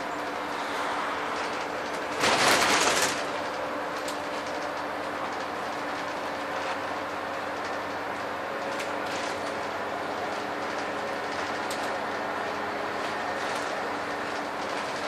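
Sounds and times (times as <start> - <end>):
bus diesel engine pulling: 0.0 - 15.0.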